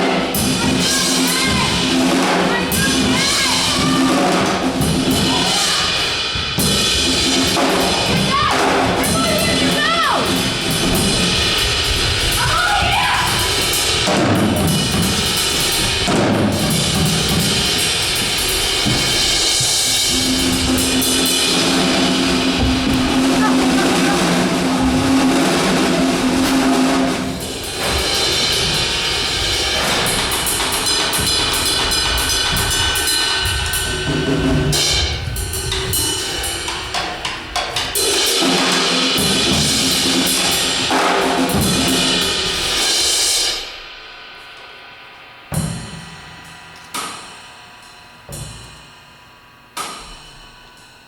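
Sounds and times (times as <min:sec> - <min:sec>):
loud drum kit playing: 0:00.0 - 0:46.8
sharp drum hits: 0:00.4 - 0:42.4.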